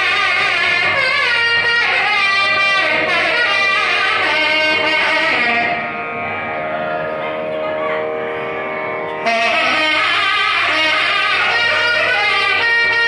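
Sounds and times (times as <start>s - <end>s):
nadaswaram melody: 0.0s - 13.0s
steady drone: 0.0s - 13.0s.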